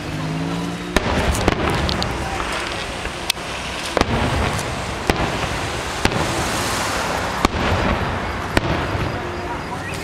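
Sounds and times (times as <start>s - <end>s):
steady background noise: 0.0s - 10.0s
fireworks bursting: 0.1s - 10.0s.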